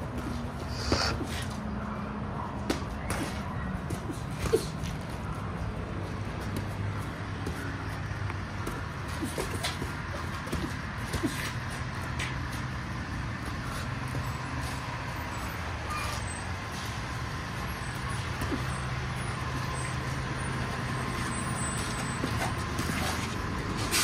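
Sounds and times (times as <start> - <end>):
diesel truck engine drone: 0.0 - 24.0.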